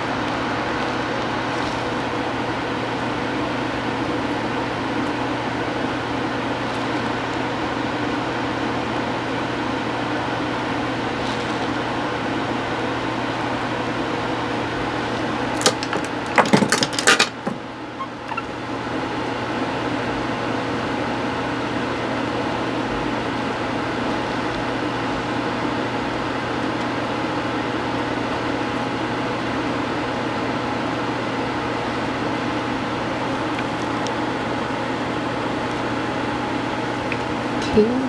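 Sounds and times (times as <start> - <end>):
steady mechanical hum: 0.0 - 38.0.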